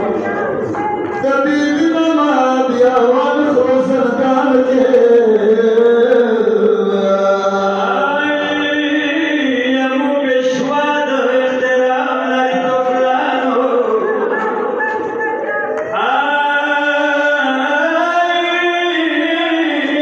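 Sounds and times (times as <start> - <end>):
person chanting a lament: 0.0 - 20.0.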